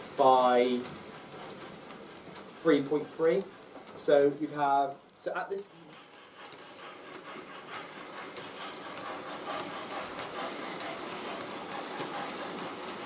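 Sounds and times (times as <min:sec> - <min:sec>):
model train rolling rattle: 0:00.0 - 0:13.0.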